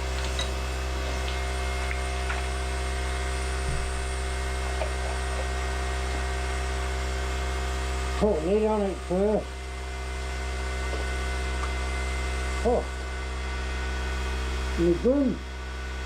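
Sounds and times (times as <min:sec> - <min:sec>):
electric motor hum: 0:00.0 - 0:16.0.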